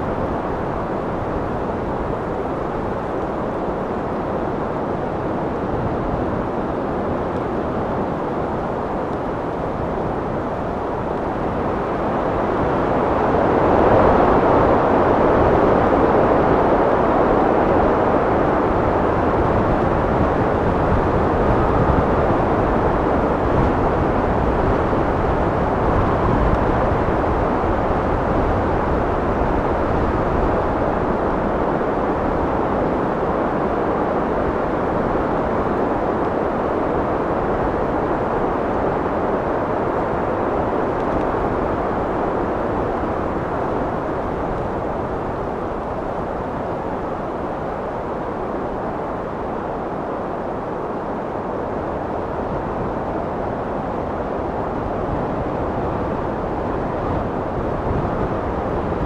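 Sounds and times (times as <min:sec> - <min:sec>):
steady wind rushing: 0:00.0 - 0:59.0.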